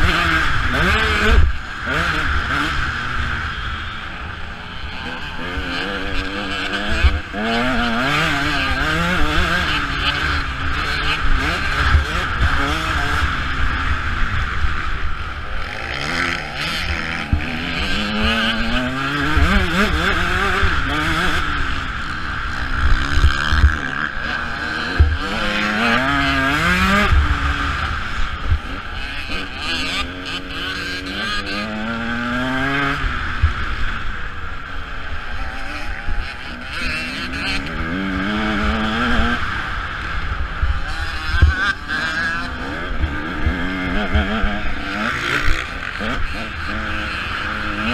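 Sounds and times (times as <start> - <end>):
motocross bike engine revving: 0.0 - 47.9
steady rushing noise: 0.0 - 47.9.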